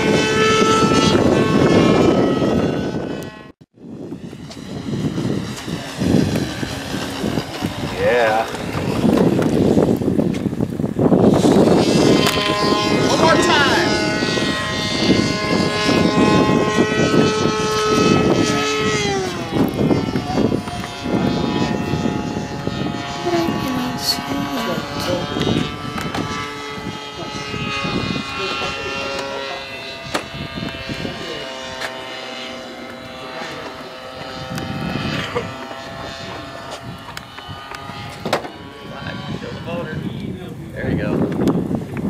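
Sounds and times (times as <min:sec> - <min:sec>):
model airplane motor drone: 0:00.0 - 0:42.0.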